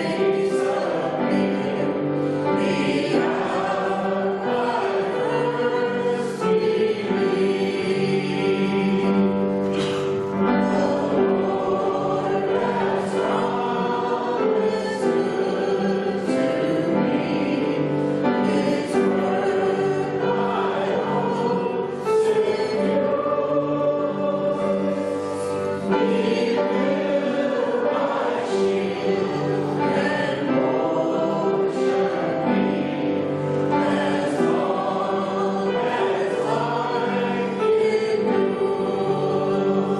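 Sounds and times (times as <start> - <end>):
congregation singing a hymn: 0.0 - 39.9
musical accompaniment: 0.0 - 39.9.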